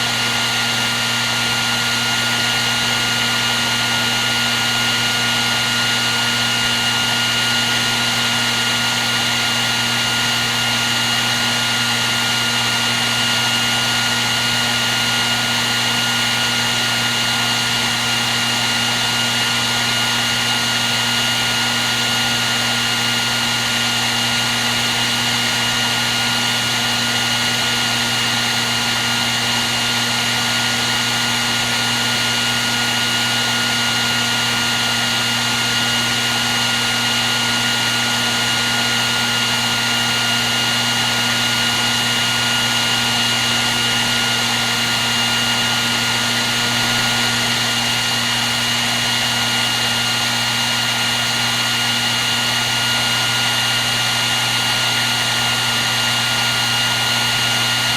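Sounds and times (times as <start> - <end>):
hair dryer running: 0.0 - 57.9.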